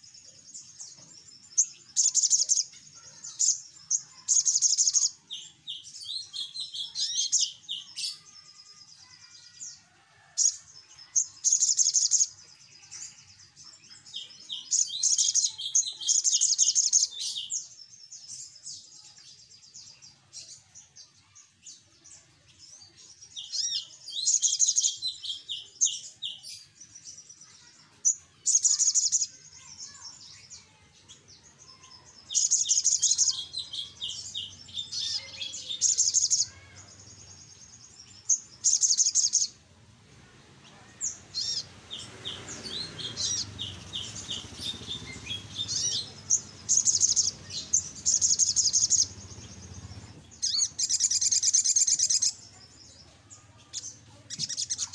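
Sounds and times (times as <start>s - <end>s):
bird twittering chatter: 0.0s - 9.8s, 10.4s - 19.2s, 19.8s - 39.6s, 40.6s - 54.9s.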